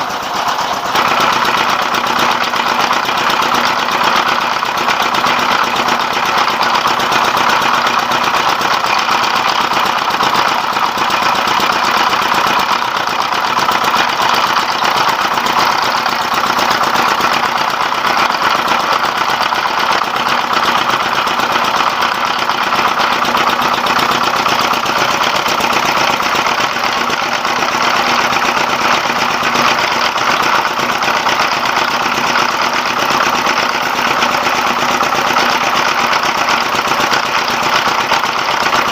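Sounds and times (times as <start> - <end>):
diesel engine running: 0.0 - 38.9
rice mill clattering: 0.0 - 38.9.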